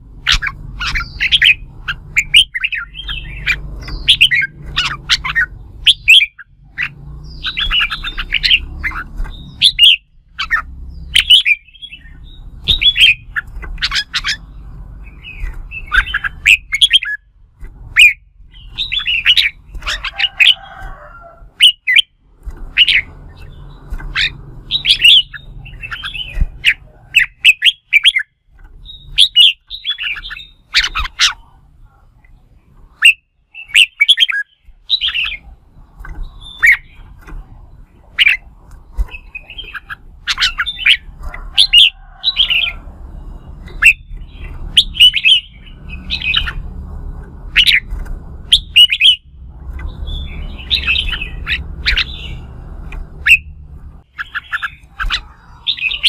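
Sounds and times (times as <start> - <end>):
bulbul singing warbling whistles: 0.2 - 17.3, 21.6 - 31.5, 33.0 - 35.5, 36.2 - 37.2, 38.1 - 46.6, 47.5 - 47.9, 48.5 - 52.5, 53.2 - 56.0.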